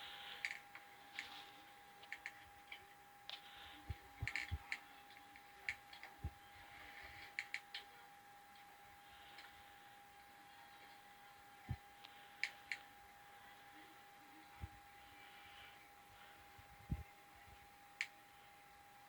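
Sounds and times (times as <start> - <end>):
faint irregular clicks and ticks: 0.0 - 19.0.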